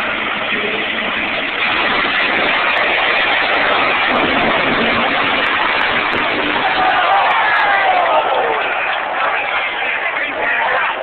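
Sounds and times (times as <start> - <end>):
dragster engines at full throttle: 0.0 - 11.0.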